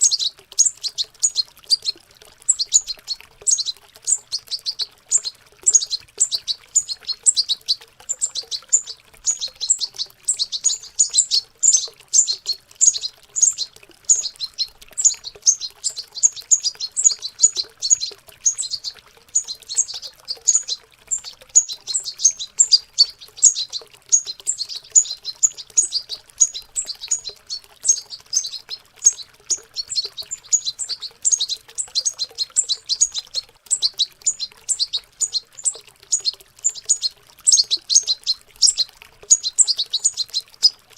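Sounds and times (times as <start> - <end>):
finches twittering high chirps: 0.0 - 40.9.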